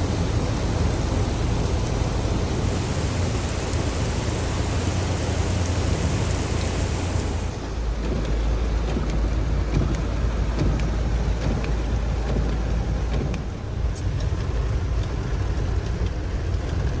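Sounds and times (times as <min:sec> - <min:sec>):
rushing water: 0:00.0 - 0:17.0
small clicks and splashes: 0:00.0 - 0:17.0.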